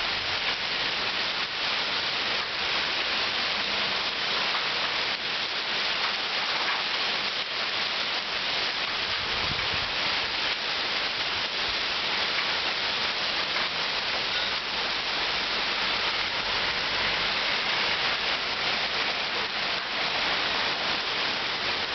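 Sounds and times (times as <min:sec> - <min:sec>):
heavy rain falling: 0:00.0 - 0:21.9.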